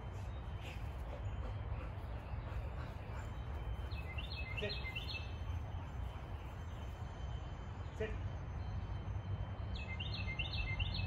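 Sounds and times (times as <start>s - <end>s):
bird chirping: 0.0s - 8.0s, 9.7s - 11.0s
low outdoor background rumble: 0.0s - 11.0s.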